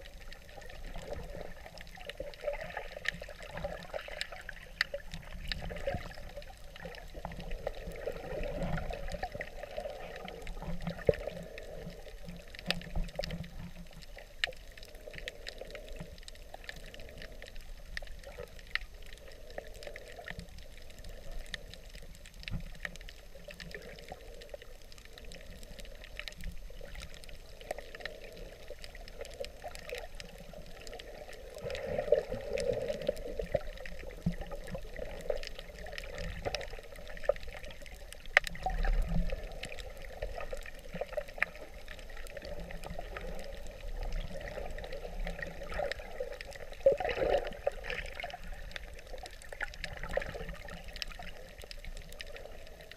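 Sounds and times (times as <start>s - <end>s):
muffled underwater water noise: 0.0s - 52.9s
small underwater clicks: 0.0s - 52.9s.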